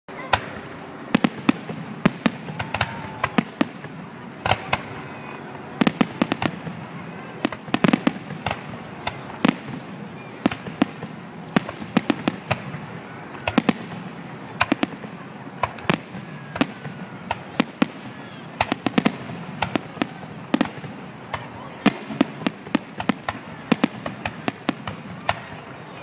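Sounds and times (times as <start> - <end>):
fireworks exploding: 0.1 - 26.0.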